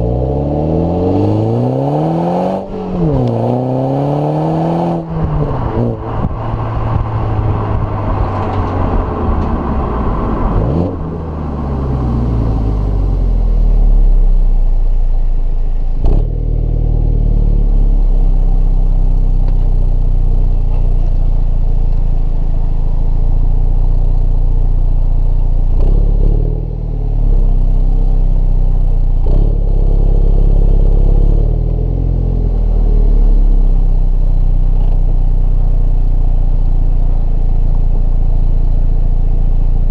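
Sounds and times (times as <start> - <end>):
car engine and exhaust droning: 0.0 - 39.9.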